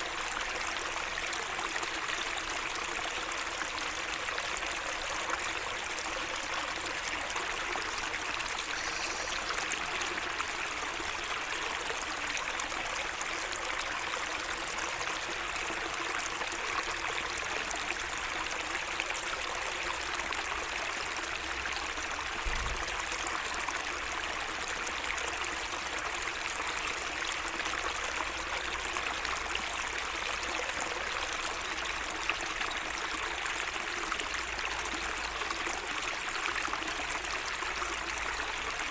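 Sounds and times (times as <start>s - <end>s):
stream flowing and trickling: 0.0s - 38.9s.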